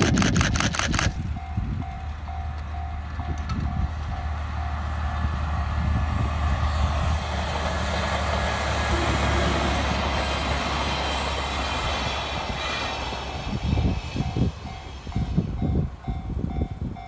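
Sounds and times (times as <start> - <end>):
locomotive engine drone: 0.0 - 17.0
train wheels on rails: 0.0 - 17.0.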